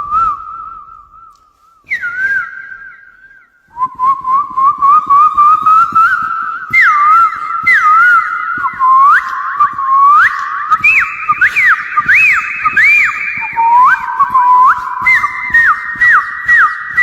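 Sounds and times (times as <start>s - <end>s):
man whistling birdsong: 0.0s - 17.0s.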